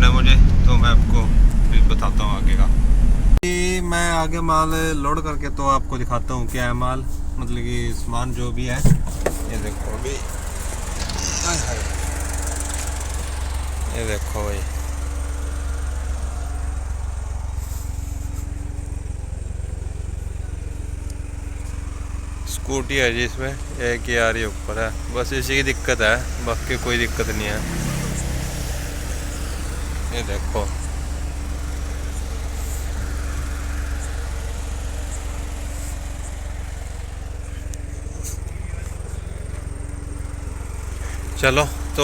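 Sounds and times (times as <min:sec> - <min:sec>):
truck engine droning: 0:00.0 - 0:42.0.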